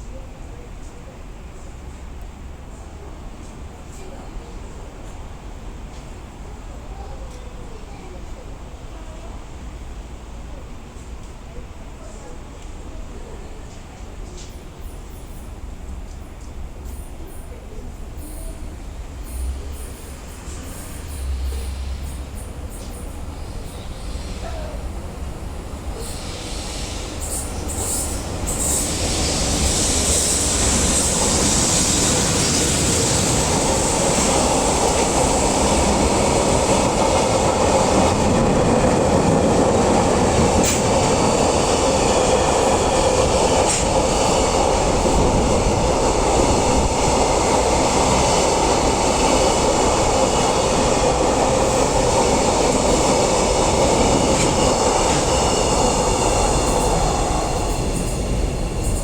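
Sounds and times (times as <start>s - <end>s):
train wheels rolling on rail: 0.1s - 59.0s.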